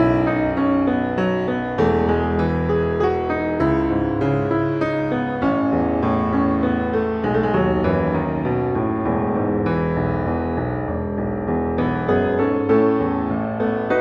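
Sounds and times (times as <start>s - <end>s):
slow piano piece: 0.0s - 14.0s.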